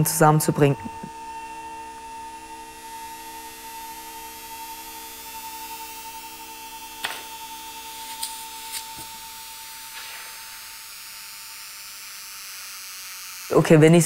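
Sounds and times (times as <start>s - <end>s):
drone of held tones: 0.0s - 14.0s.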